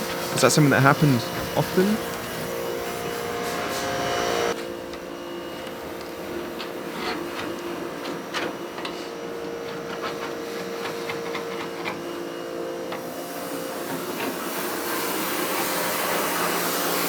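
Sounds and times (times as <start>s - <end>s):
small electric tool motor running: 0.0s - 17.0s.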